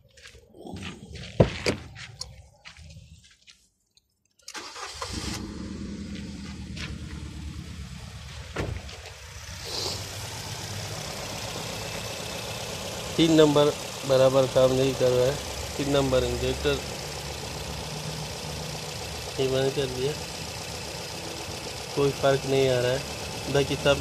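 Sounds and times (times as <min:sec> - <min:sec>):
car engine starting and idling: 0:04.4 - 0:24.0.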